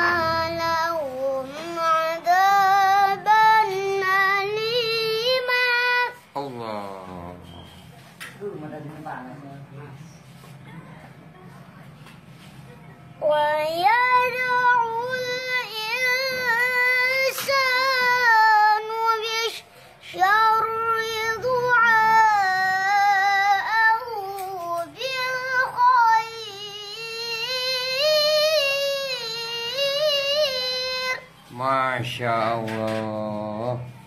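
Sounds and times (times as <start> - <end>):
boy reciting melodically: 0.0 - 6.8, 13.2 - 33.8.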